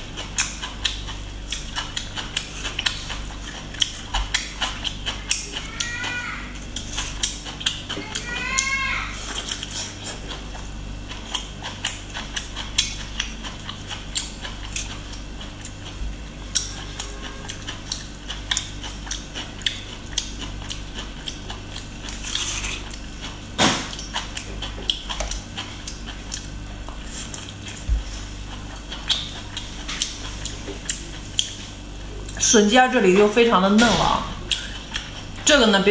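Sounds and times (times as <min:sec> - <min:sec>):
crisp chewing crunches: 0:00.0 - 0:08.5, 0:09.2 - 0:32.5, 0:34.4 - 0:35.6.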